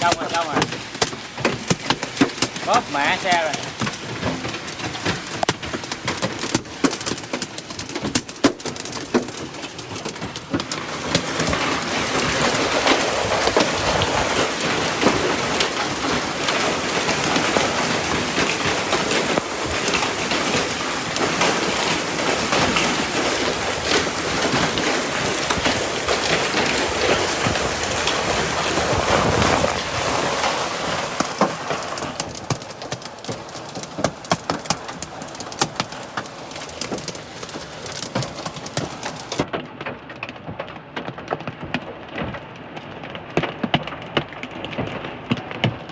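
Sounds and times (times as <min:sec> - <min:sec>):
hail and heavy rain pelting: 0:00.0 - 0:45.9.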